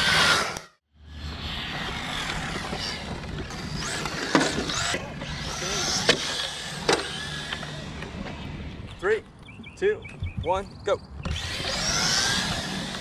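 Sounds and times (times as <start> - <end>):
rc car tyre noise on asphalt: 0.0 - 9.5, 11.1 - 13.0
high motor whine: 0.0 - 13.0.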